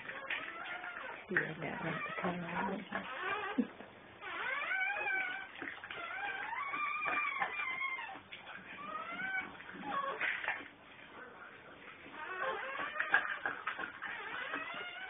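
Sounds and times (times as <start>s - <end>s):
puppy crying squeals: 0.0s - 10.5s, 12.1s - 15.0s.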